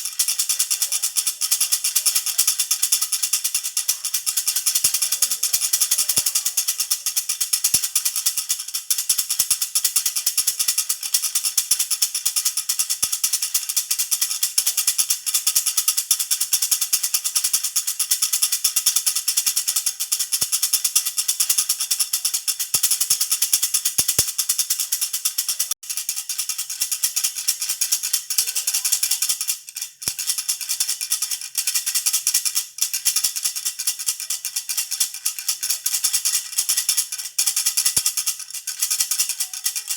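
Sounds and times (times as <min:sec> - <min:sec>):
baby rattle jingling: 0:00.0 - 0:39.9.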